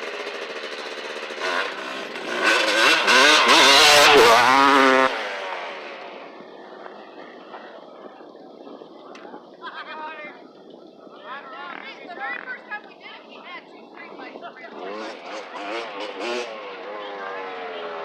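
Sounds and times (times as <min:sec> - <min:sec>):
dirt bike engine passing: 0:00.0 - 0:09.6, 0:10.3 - 0:18.0.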